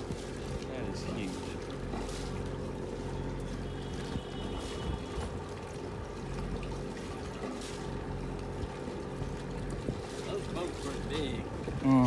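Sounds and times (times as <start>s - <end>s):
low machine hum: 0.0s - 12.0s
running water: 0.0s - 12.0s.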